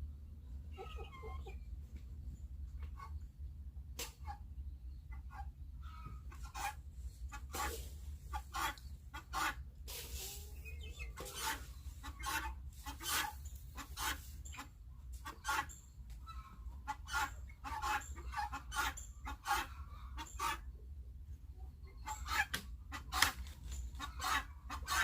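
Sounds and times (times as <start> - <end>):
low steady rumble: 0.0 - 24.9
chickens clucking: 0.0 - 25.0.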